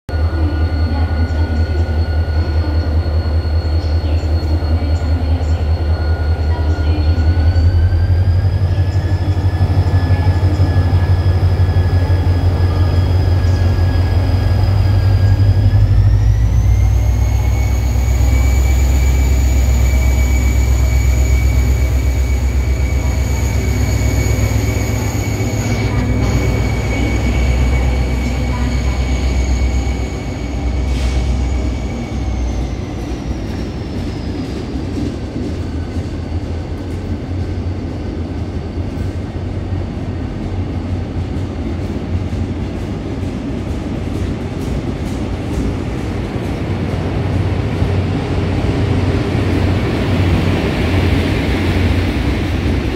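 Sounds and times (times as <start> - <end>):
train engine drone: 0.1 - 52.9.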